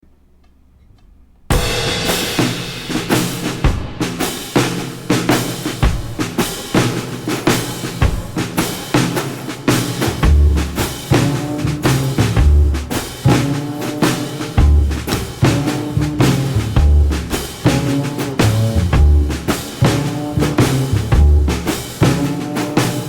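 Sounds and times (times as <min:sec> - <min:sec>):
background music with drum beat: 0:01.5 - 0:23.0.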